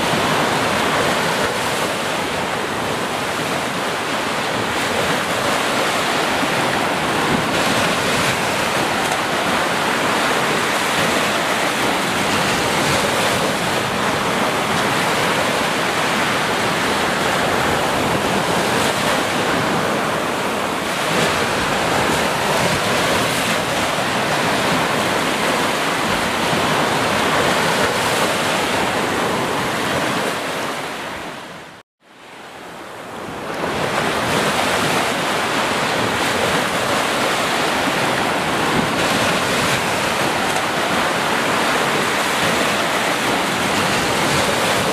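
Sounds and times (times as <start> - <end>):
waves washing up a beach: 0.0 - 44.9.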